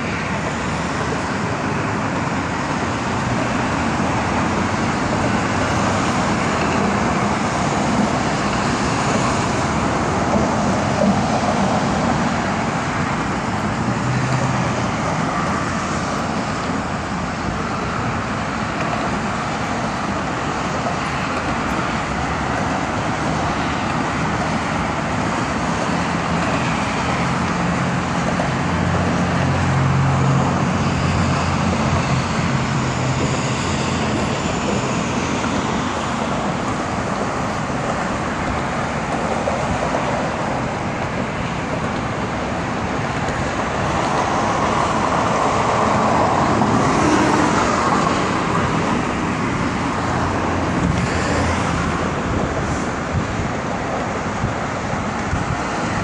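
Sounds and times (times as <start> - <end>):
heavy vehicle engine drone: 0.0 - 56.0
highway traffic: 0.0 - 56.0.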